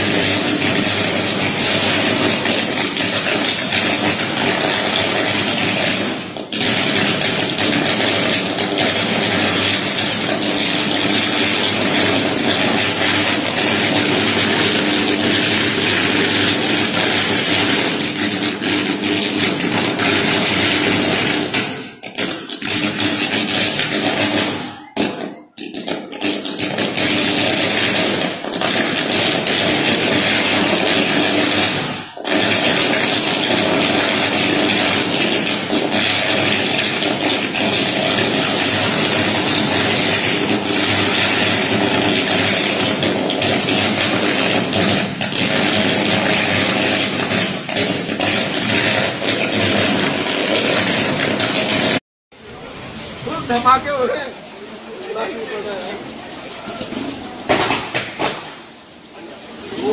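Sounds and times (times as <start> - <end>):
electrical arcing rushing noise: 0.0 - 59.9.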